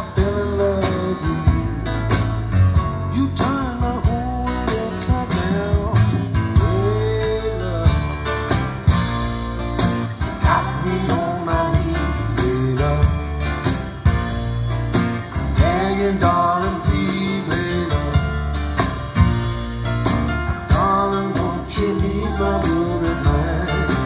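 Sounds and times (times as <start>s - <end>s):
song with singing over heavy bass: 0.0s - 14.4s, 15.0s - 24.0s.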